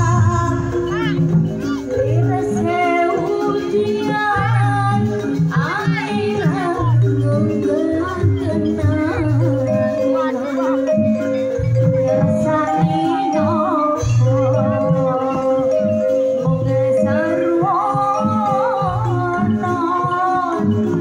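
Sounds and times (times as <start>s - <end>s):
gamelan metallophones melody: 0.0s - 21.0s
wavering high melody line: 0.0s - 21.0s.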